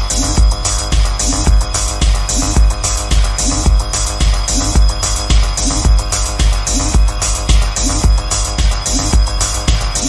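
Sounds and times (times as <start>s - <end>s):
electronic club music: 0.0s - 10.0s
hissy high-pitched percussion: 0.0s - 10.0s.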